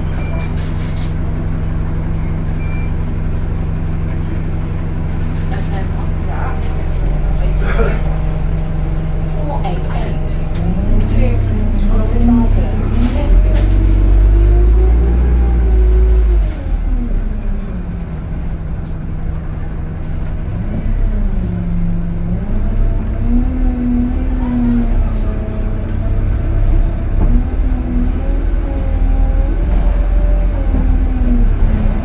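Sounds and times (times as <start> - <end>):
bus diesel engine rumbling: 0.0 - 32.0.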